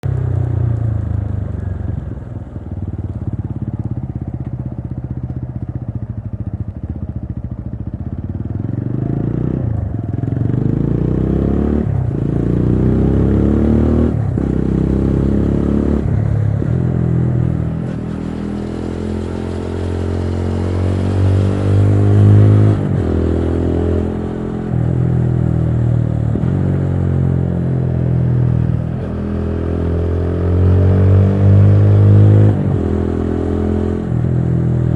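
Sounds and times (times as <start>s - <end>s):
motorcycle engine revving through gears: 3.1s - 34.9s.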